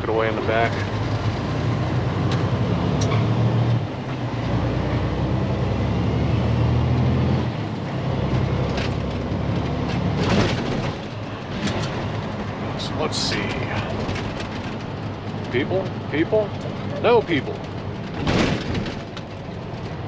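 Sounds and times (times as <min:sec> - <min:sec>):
truck diesel engine droning: 0:00.0 - 0:20.0.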